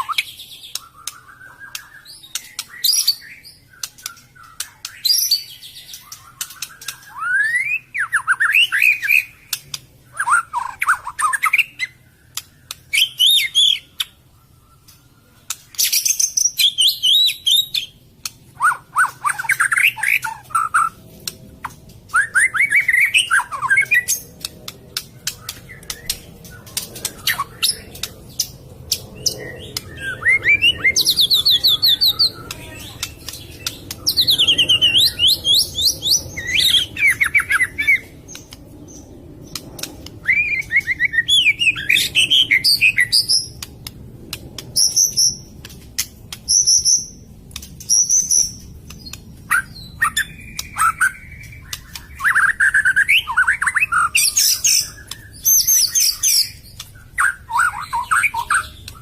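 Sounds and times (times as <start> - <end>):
bird singing whistles and trills: 0.0 - 18.0, 18.6 - 21.0, 21.6 - 43.7, 46.4 - 59.0.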